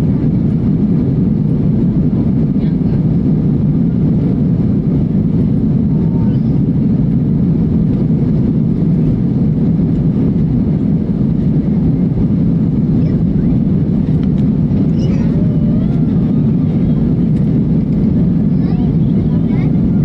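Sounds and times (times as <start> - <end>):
jet engine rumble in cabin: 0.0 - 20.0.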